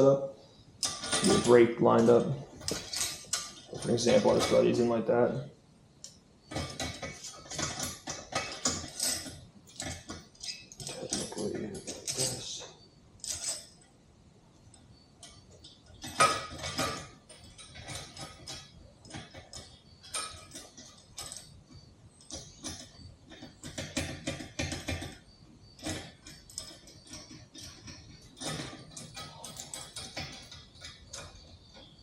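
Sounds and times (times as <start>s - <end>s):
metal parts clinking: 0.0s - 5.0s, 6.0s - 13.9s, 14.7s - 32.0s.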